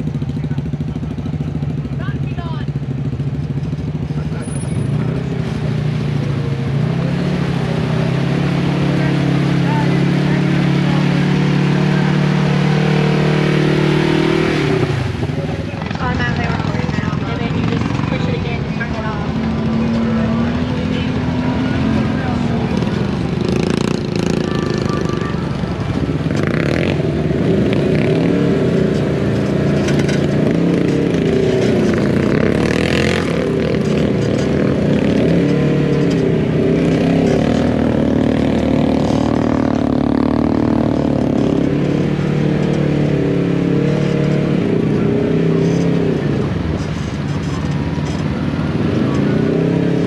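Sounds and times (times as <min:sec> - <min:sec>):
utility vehicle engine running: 0:00.0 - 0:50.0.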